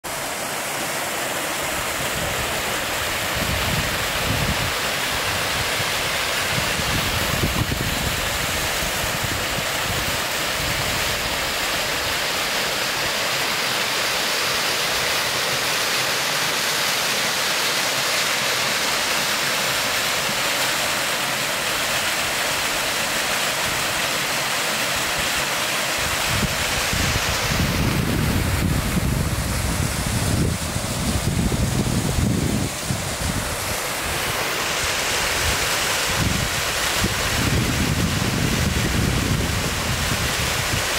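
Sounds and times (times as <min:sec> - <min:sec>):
waterfall rushing over rock: 0:00.0 - 0:40.9.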